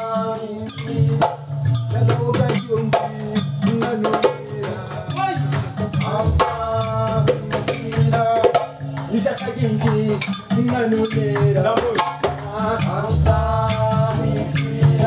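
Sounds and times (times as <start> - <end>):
hand drums playing fast rhythm: 0.0 - 15.0.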